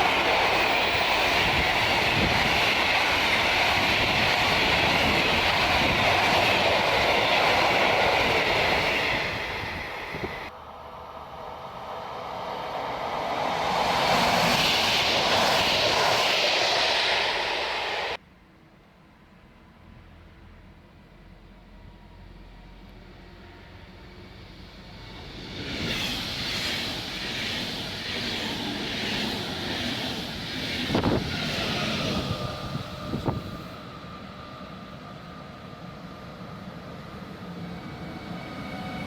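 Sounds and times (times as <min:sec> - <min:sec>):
freight train passing: 0:00.0 - 0:18.6, 0:19.8 - 0:39.0
train noise: 0:00.0 - 0:18.6, 0:21.1 - 0:39.0.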